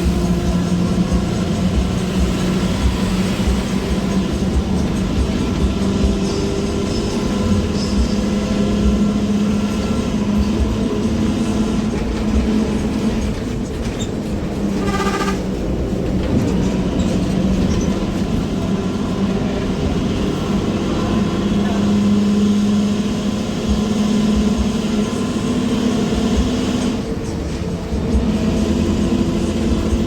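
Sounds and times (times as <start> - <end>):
bus exhaust deep drone: 0.0 - 30.0.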